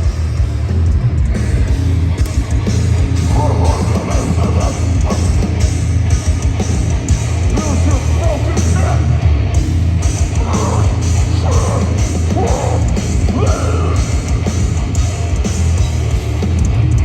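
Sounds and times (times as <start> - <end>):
band vocals: 0.0 - 17.0
heavy guitars and drums: 0.0 - 17.0.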